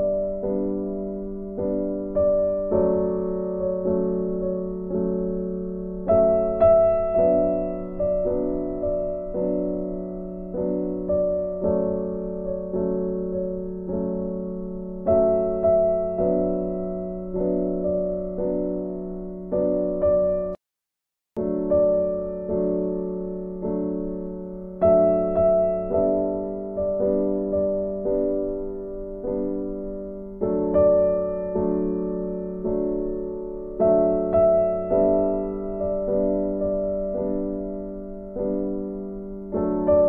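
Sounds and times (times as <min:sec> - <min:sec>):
gentle piano melody: 0:00.0 - 0:20.6, 0:21.4 - 0:40.0.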